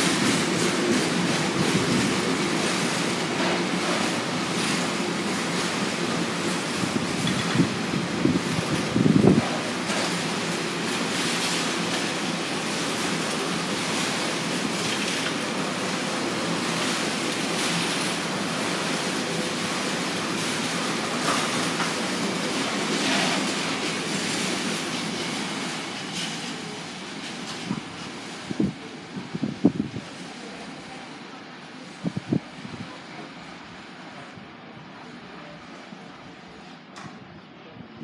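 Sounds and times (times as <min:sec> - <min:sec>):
train wheels rumbling and rattling: 0:00.0 - 0:31.8.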